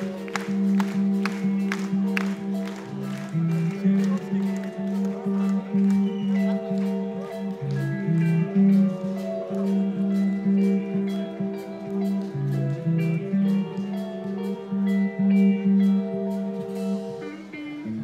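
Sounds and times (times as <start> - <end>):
clean guitar held notes: 0.0 - 18.0
metal band playing live: 0.0 - 18.0.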